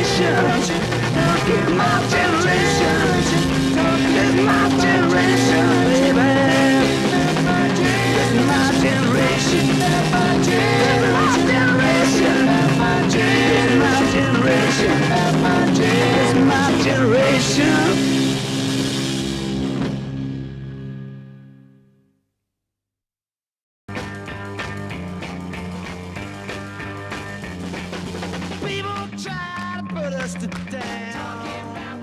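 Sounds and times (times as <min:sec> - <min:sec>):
loud rock music: 0:00.0 - 0:21.2, 0:23.9 - 0:32.0.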